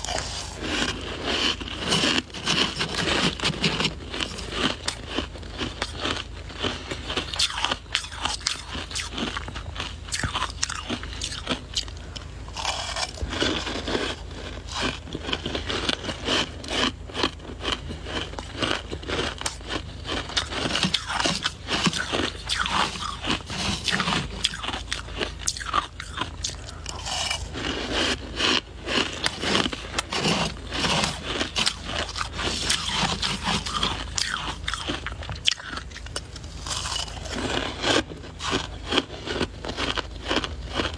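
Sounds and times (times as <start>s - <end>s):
chewing crunchy ice: 0.0s - 40.9s.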